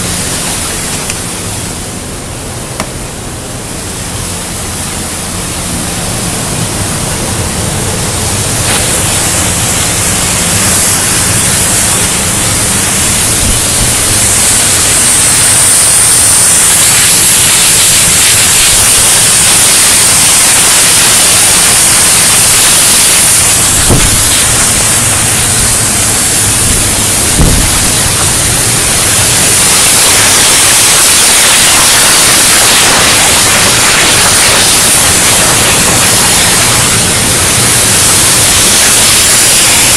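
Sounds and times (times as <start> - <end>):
cutting torch hissing: 2.8 - 39.9.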